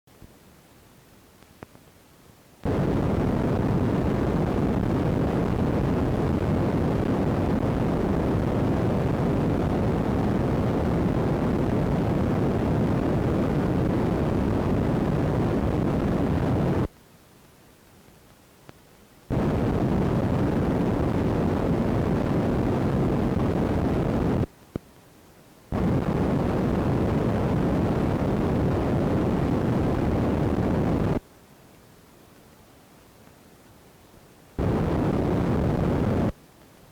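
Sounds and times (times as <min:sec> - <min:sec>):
faint hiss: 0:00.1 - 0:36.9
loud microphone static: 0:00.1 - 0:36.9.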